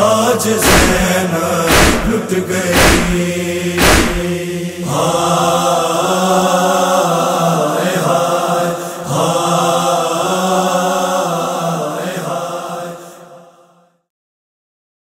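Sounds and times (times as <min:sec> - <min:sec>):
voices chanting drone: 0:00.0 - 0:13.9.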